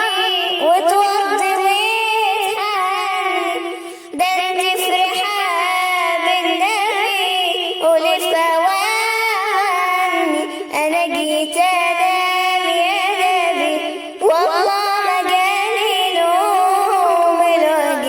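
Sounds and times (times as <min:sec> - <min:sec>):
woman singing with vibrato: 0:00.0 - 0:18.0.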